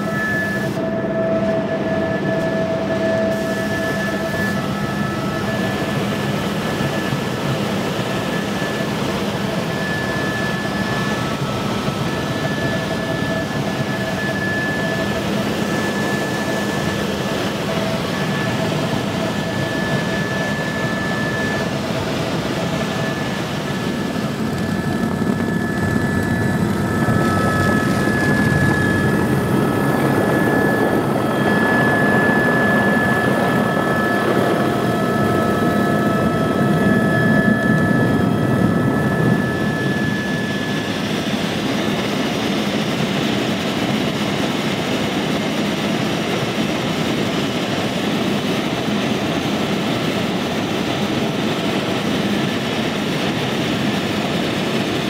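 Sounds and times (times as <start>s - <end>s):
constant high whine: 0.0s - 55.0s
helicopter rotor and engine drone: 0.0s - 55.0s.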